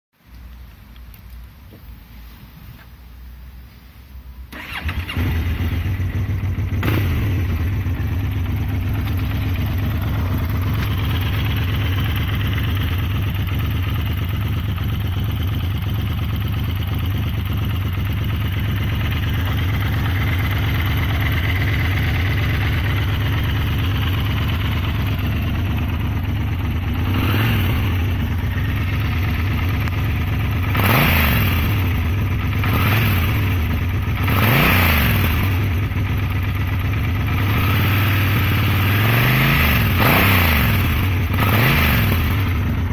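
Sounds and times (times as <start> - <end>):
motorcycle engine starting and idling: 4.4 - 42.9.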